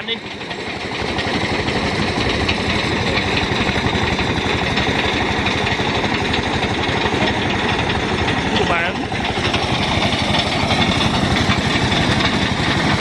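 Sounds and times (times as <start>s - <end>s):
threshing machine engine rattling: 0.0s - 13.0s.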